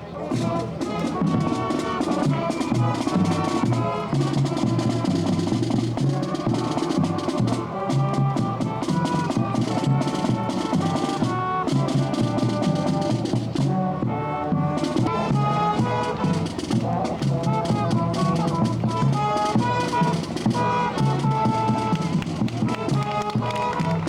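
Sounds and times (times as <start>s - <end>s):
held melody notes: 0.0s - 24.0s
steady drum beat: 0.3s - 24.0s.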